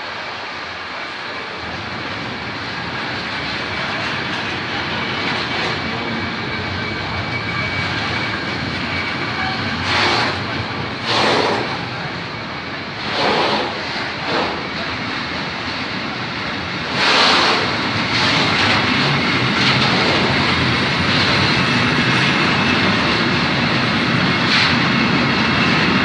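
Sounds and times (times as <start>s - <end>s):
freight train passing: 0.0s - 26.0s.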